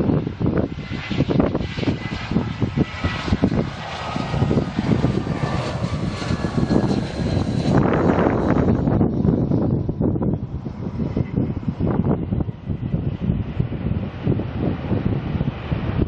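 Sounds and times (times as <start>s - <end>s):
jet engines whining: 0.0s - 16.0s
wind buffeting microphone: 0.0s - 16.0s.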